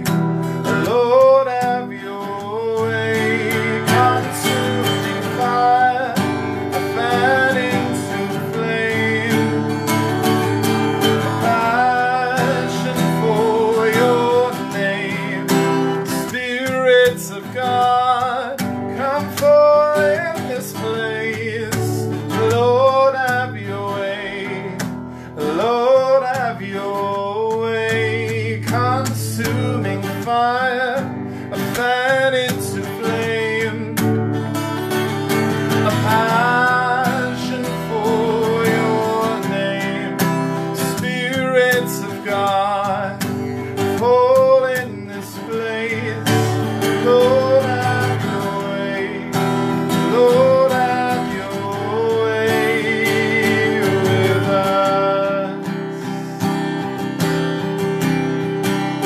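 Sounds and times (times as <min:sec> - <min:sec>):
acoustic guitar strumming: 0:00.0 - 0:59.0
man singing: 0:00.0 - 0:59.0.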